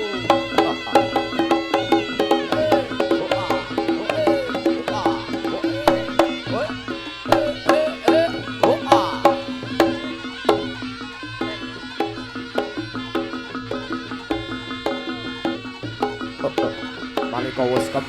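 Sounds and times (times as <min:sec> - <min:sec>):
ringing pitched percussion: 0:00.0 - 0:18.0.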